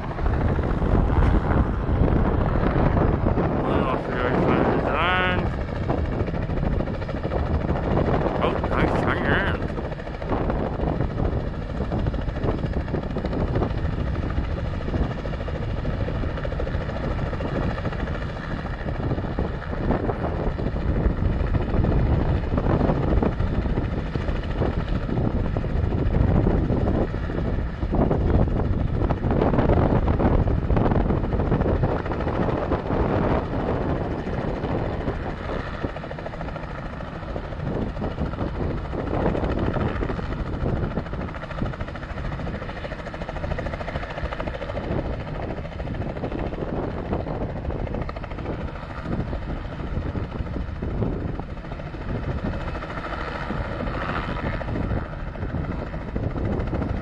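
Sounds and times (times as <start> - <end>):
helicopter hovering: 0.0 - 57.0.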